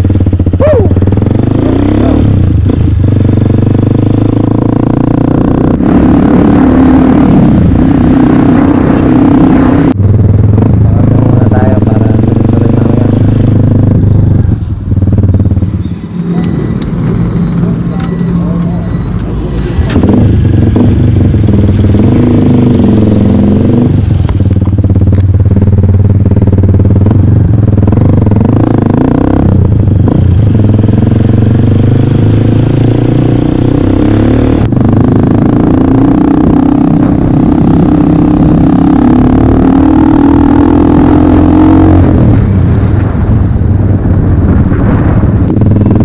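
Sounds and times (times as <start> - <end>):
dirt bike engine running: 0.0 - 46.0.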